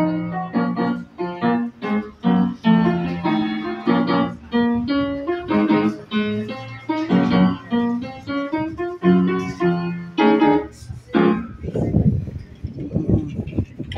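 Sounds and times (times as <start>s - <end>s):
acoustic piano chords and melody: 0.0s - 13.2s.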